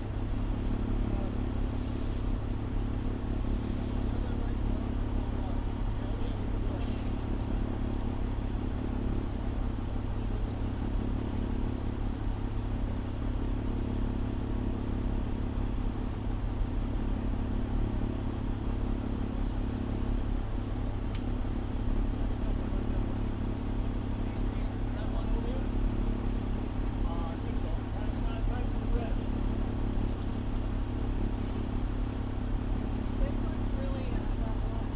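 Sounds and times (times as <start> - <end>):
diesel engine drone: 0.0 - 34.9.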